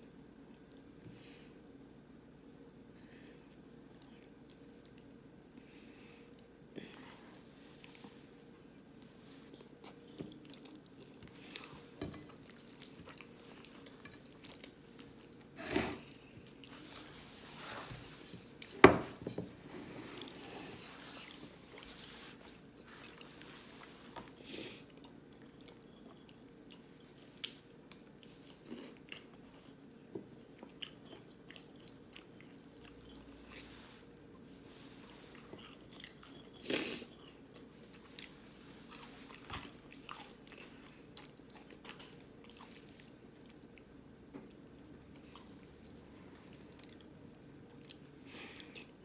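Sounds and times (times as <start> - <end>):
person chewing food: 7.3 - 49.0.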